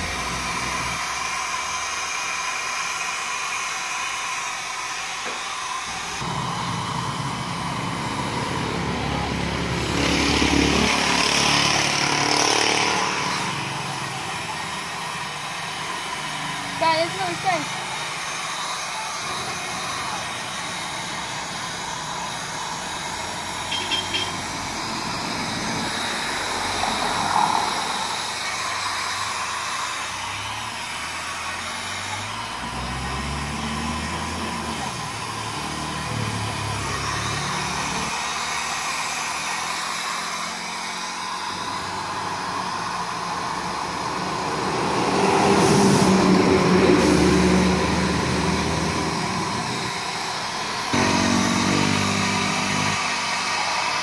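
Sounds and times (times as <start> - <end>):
vehicle engine: 0.0 - 4.4, 5.2 - 54.0
hair dryer blowing: 0.0 - 54.0.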